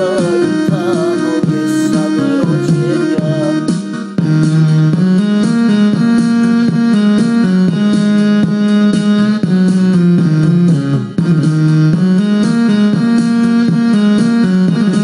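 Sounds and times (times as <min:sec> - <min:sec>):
electronic keyboard backing track: 0:00.0 - 0:15.0.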